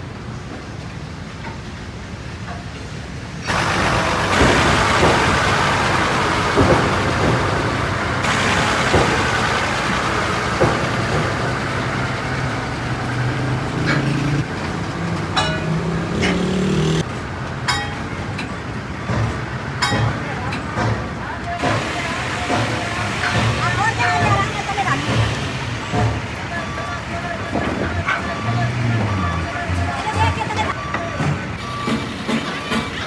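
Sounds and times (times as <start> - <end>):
heavy machinery running: 3.4 - 33.0
metallic knocks and clanks: 3.5 - 33.0.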